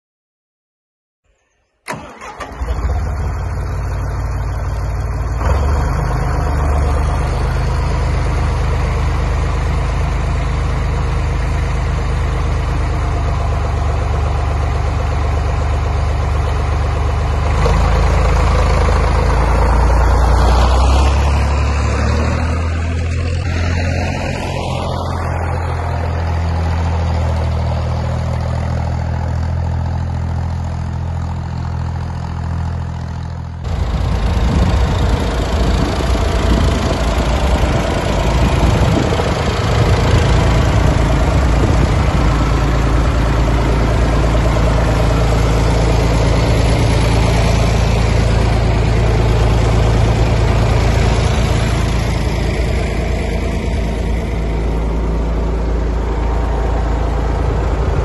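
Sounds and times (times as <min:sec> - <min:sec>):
tractor engine running: 0:01.8 - 0:58.0.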